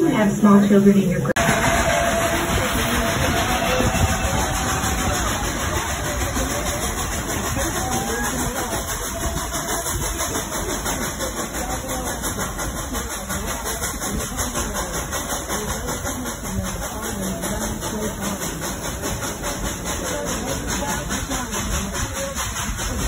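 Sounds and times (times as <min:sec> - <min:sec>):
steam train rumbling and clattering: 0:00.0 - 0:23.0.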